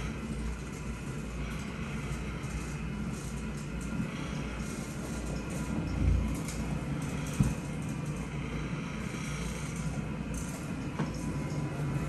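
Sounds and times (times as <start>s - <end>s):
carpet cleaning machine droning: 0.0s - 12.0s.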